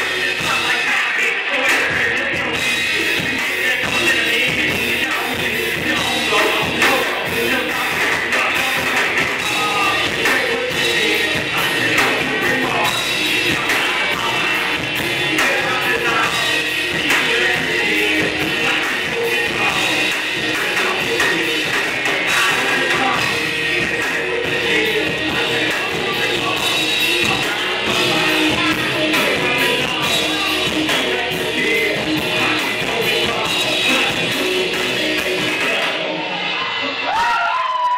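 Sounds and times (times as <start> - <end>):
keyboard: 0.0 - 37.4
drum kit: 0.0 - 37.9
vocals into microphones: 0.0 - 37.9.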